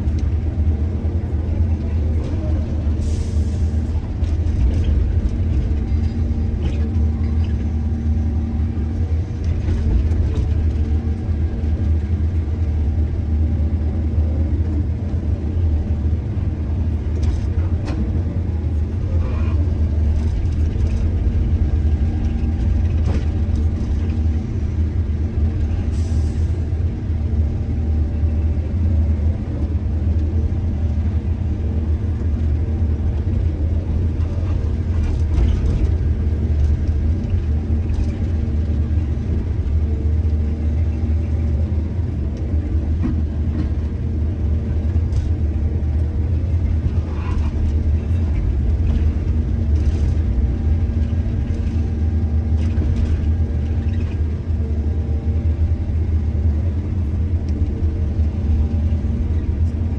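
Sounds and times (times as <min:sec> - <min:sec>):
excavator diesel engine rumbling: 0:00.0 - 0:59.9.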